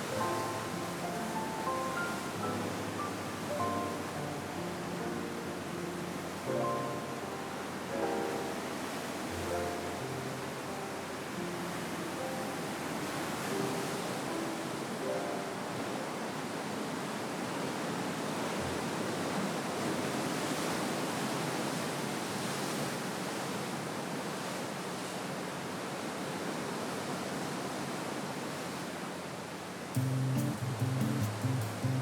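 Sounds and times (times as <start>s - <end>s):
waves breaking: 0.0s - 29.9s.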